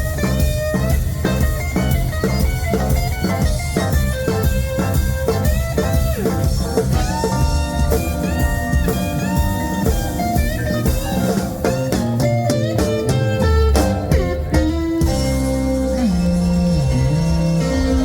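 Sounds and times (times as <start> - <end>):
drums: 0.0 - 18.0
lead guitar bent notes: 0.0 - 18.0.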